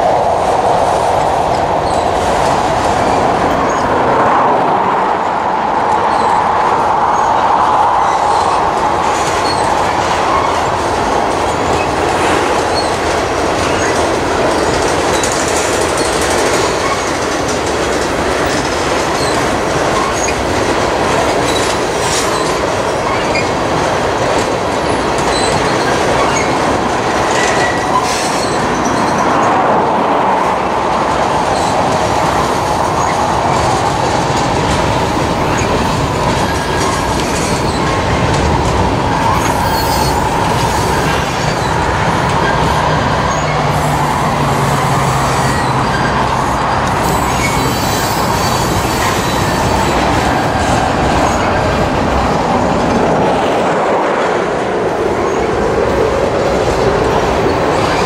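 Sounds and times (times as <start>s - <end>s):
freight train wheels clacking on rails: 0.0s - 58.0s.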